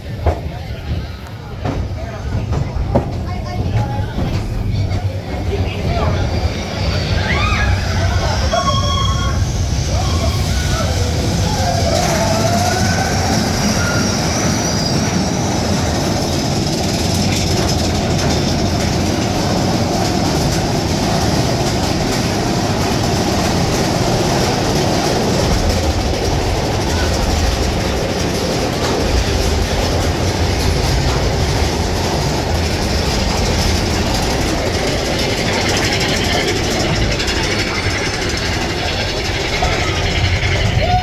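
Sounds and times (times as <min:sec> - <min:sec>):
roller coaster wheels rumbling on rail: 0:00.0 - 0:41.0.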